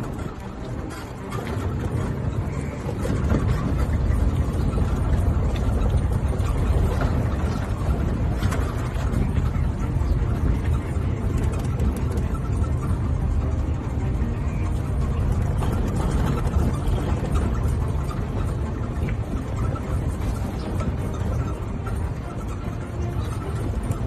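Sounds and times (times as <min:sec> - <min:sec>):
golf cart rumble: 0:00.0 - 0:24.0.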